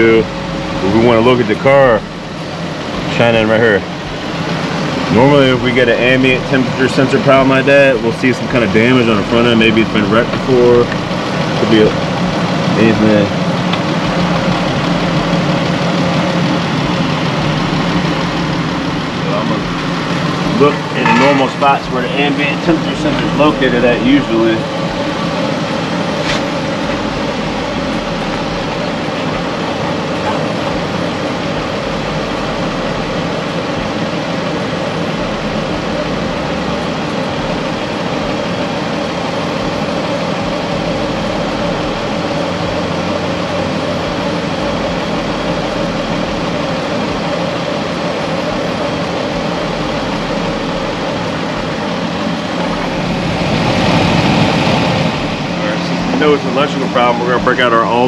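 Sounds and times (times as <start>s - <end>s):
van engine idling: 0.0s - 58.0s.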